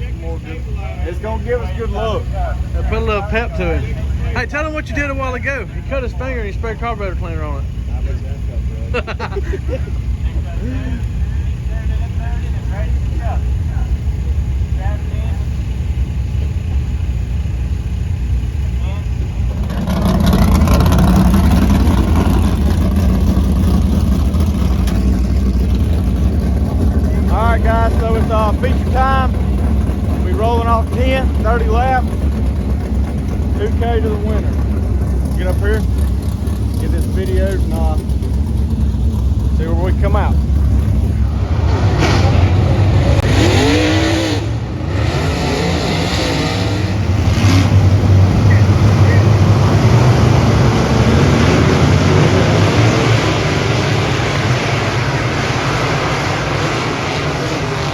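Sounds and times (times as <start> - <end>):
race car engines running: 0.0 - 57.9.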